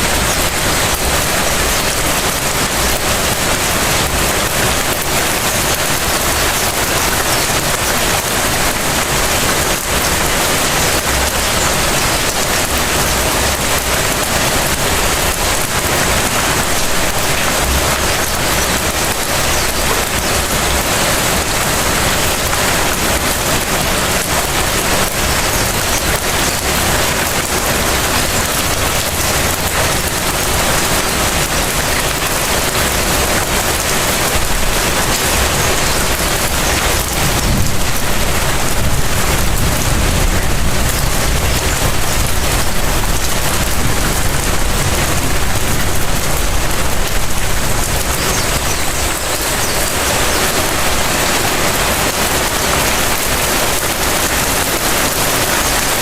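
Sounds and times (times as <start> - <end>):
light rain on hard surfaces: 0.0 - 56.0.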